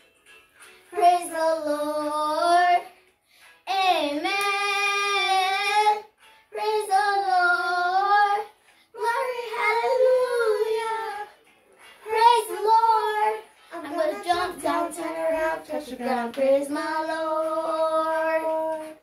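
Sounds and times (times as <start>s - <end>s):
girl singing unaccompanied: 0.9s - 3.0s, 3.6s - 11.4s, 12.0s - 19.0s.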